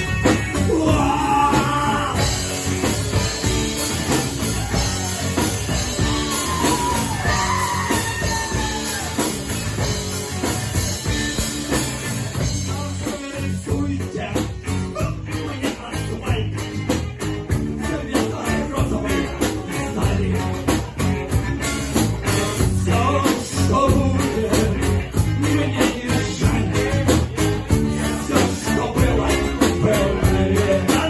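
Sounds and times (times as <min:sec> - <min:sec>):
fast drum beat: 0:00.0 - 0:31.0
rock band playing: 0:00.0 - 0:31.0.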